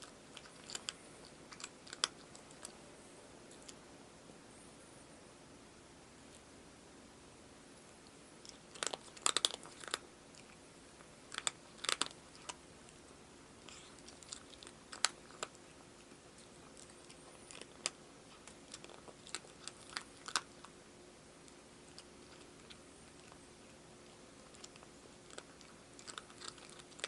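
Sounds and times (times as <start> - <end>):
cat chewing crunchy food: 0.0 - 3.8, 8.0 - 27.0.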